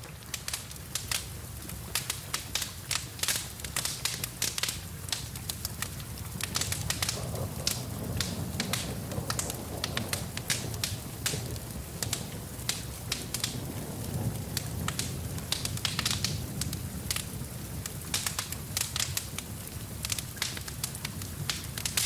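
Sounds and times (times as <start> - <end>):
rain hissing: 0.0 - 22.0
wood fire crackling: 0.0 - 22.0.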